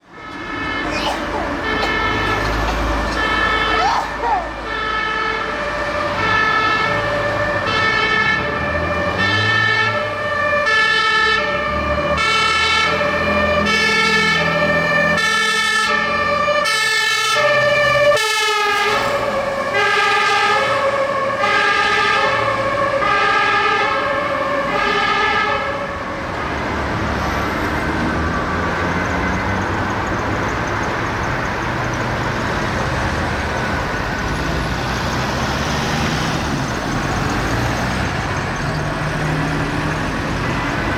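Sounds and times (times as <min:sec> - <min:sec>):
traffic noise: 0:00.0 - 0:40.9
vehicle engine: 0:00.0 - 0:40.9
two-tone siren: 0:00.1 - 0:40.9.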